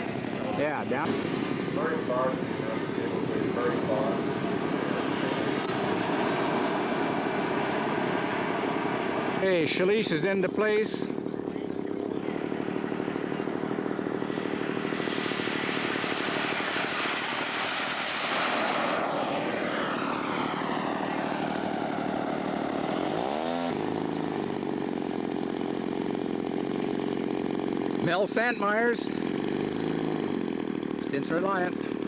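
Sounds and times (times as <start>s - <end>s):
model airplane engine flying past: 0.0s - 32.0s.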